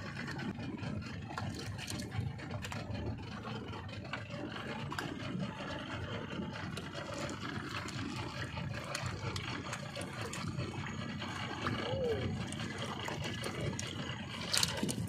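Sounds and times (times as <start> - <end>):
outboard motor rumble: 0.0 - 15.0
sea water washing: 0.0 - 15.0
wind: 0.0 - 15.0.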